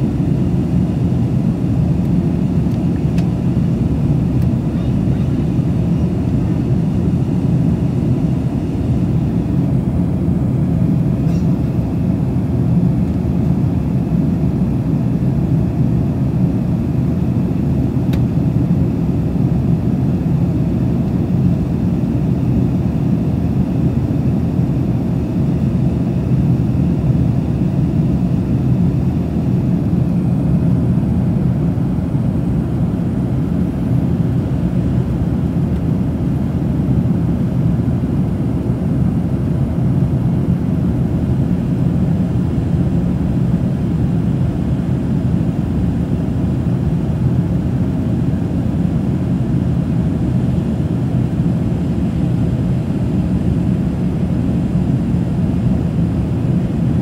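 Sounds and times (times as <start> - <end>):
aircraft cabin engine roar: 0.0 - 57.0
airflow over fuselage: 0.0 - 57.0.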